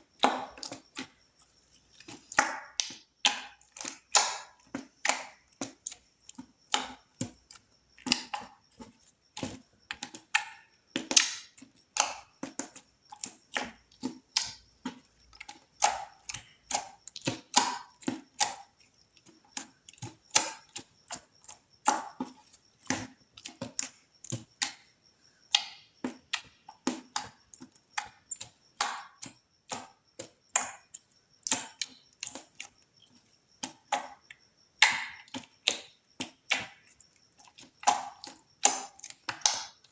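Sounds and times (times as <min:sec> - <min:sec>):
slime squishing with sticky clicks: 0:00.1 - 0:39.9.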